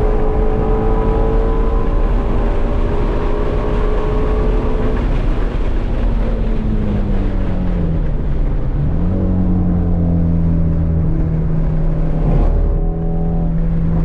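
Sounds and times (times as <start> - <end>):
car engine heard from cabin: 0.0 - 14.0
road and wind noise: 0.0 - 14.0.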